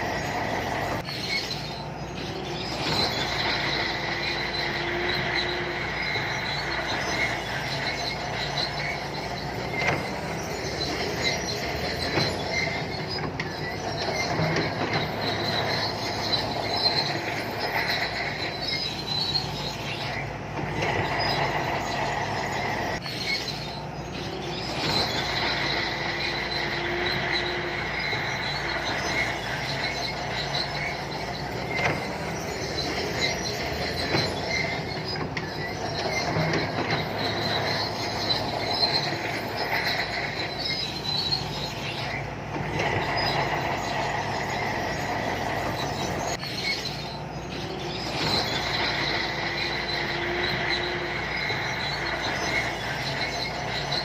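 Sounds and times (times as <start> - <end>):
bulldozer diesel engine running: 0.0 - 54.0
steel tracks squealing: 0.0 - 54.0.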